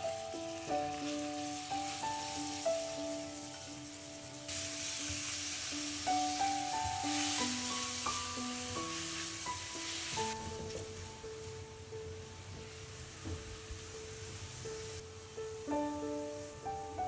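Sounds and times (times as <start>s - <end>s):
background music single notes: 0.0s - 17.0s
food sizzling in oil: 0.0s - 17.0s.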